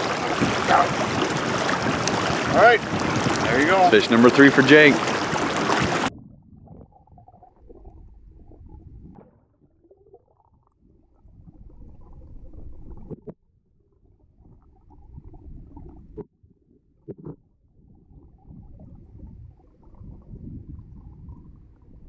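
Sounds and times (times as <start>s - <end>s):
muffled underwater river rumble: 0.0s - 22.0s.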